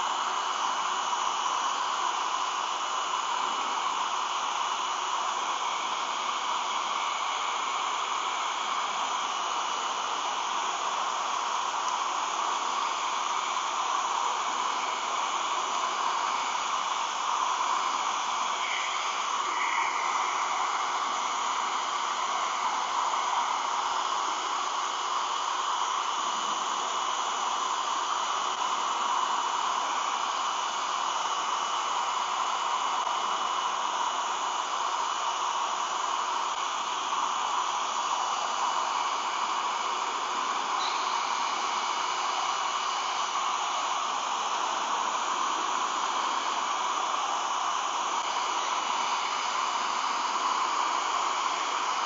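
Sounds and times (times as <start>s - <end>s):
hair dryer running: 0.0s - 52.0s.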